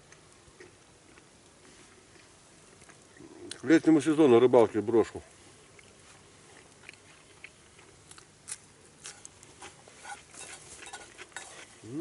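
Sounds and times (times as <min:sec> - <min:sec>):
campfire wood crackling: 0:00.0 - 0:12.0.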